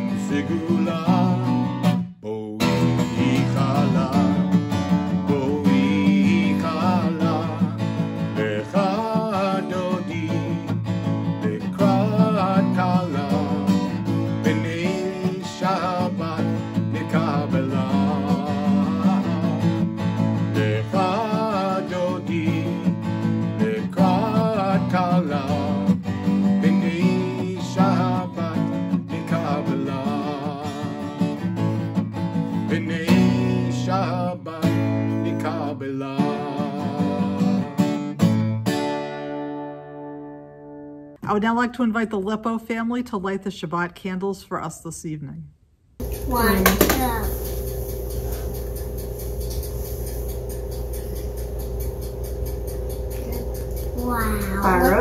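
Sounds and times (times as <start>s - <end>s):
acoustic guitar strumming chords: 0.0s - 41.1s, 46.0s - 55.0s.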